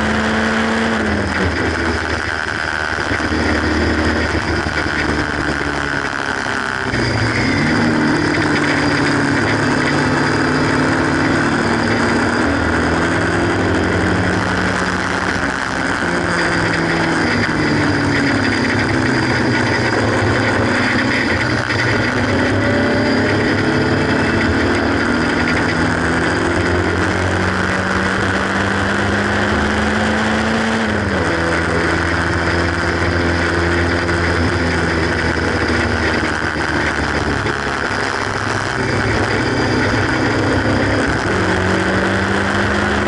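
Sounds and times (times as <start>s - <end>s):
car engine revving: 0.0s - 43.0s
road and wind noise: 0.0s - 43.0s.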